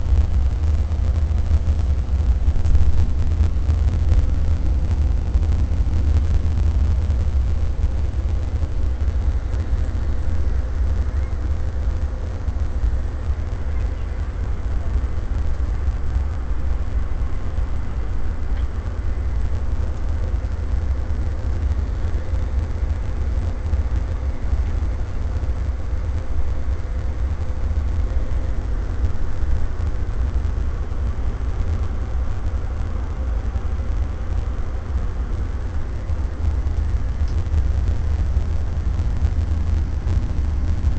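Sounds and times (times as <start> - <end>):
coach engine and tyre rumble: 0.0 - 40.9
faint steady hum: 0.0 - 40.9.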